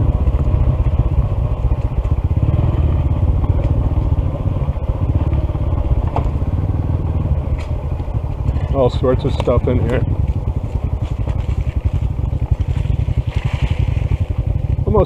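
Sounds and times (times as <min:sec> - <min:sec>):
motorcycle engine puttering: 0:00.0 - 0:15.0.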